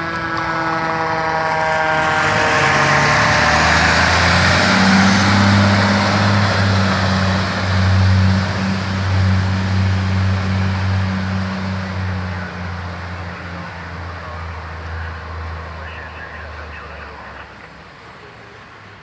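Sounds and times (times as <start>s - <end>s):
fire truck siren: 0.0s - 17.7s
truck diesel engine passing: 0.0s - 19.0s.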